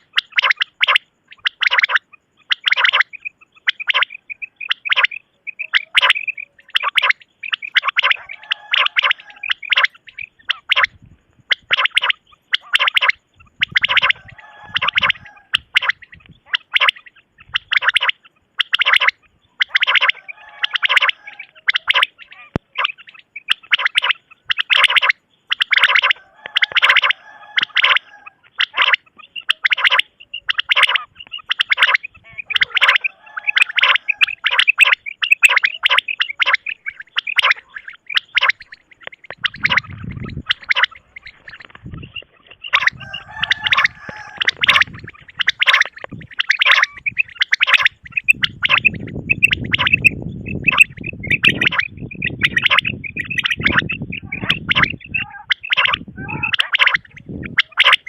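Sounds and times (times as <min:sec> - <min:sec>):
quail calling: 0:00.0 - 0:58.0.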